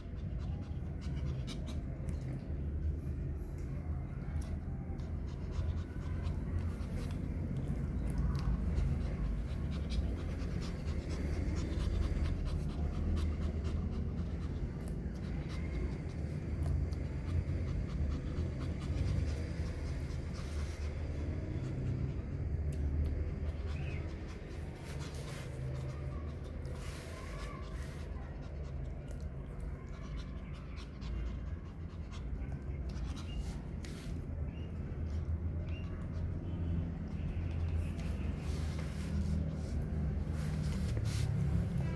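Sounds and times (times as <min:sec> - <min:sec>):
puppy panting: 0:00.0 - 0:41.9.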